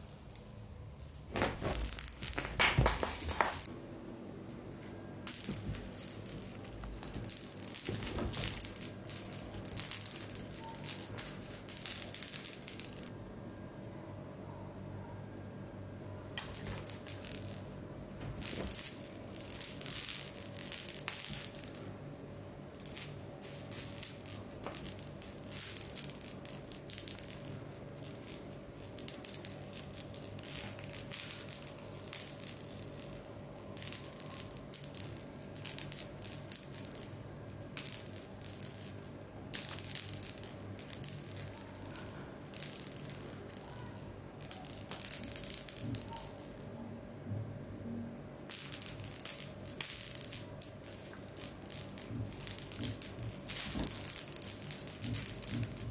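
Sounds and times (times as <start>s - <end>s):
cat toy rattling: 0.0s - 3.7s, 5.3s - 13.1s, 16.4s - 17.8s, 18.4s - 21.9s, 22.7s - 37.2s, 37.8s - 46.6s, 48.5s - 55.9s.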